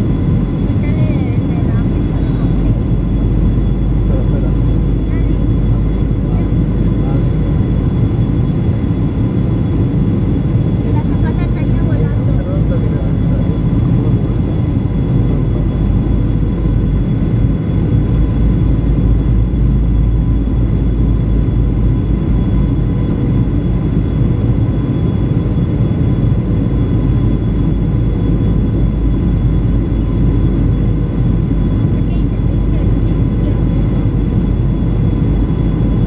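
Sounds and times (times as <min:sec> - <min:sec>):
airplane cabin noise: 0:00.0 - 0:36.0.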